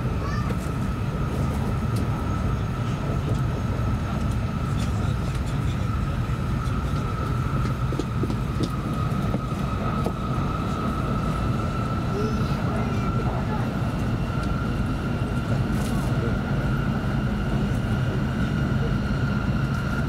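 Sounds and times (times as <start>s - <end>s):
train cabin low rumble: 0.0s - 20.0s.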